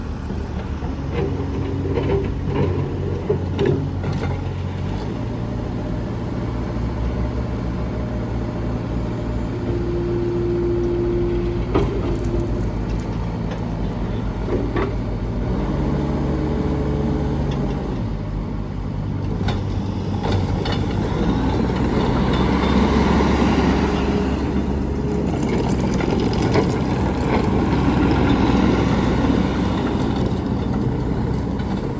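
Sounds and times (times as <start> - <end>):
loader diesel engine running: 0.0 - 31.9.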